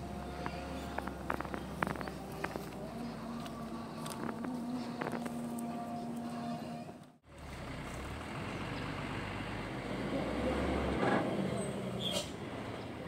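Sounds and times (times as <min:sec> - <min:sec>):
diesel truck engine running low: 0:00.0 - 0:13.0.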